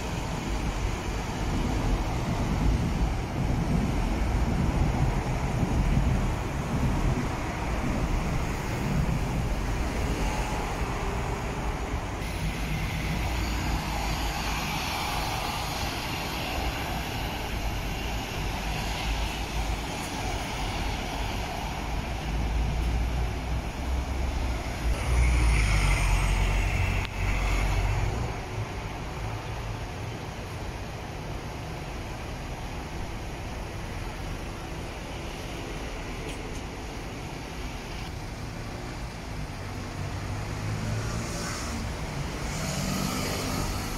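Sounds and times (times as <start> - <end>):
cars passing: 0.0 - 43.9
diesel bus engines: 0.0 - 43.9.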